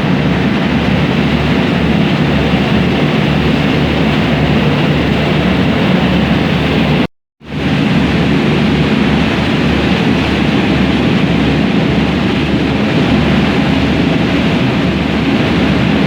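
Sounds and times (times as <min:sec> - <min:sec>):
rushing water and air: 0:00.0 - 0:16.0.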